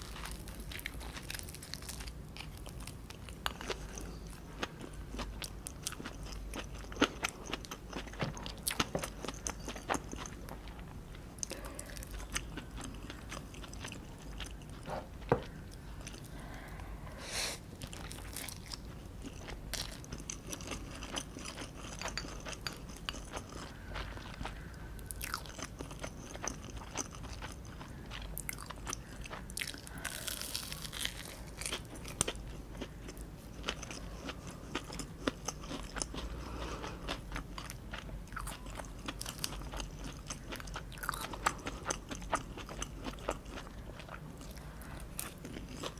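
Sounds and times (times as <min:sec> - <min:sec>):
person chewing crunchy food: 0:00.0 - 0:16.6, 0:17.7 - 0:45.9.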